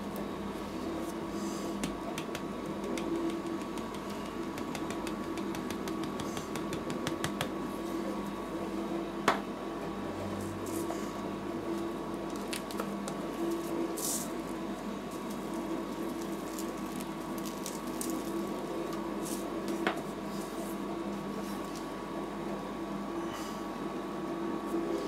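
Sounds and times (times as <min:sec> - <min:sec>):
refrigeration unit humming: 0:00.0 - 0:25.0.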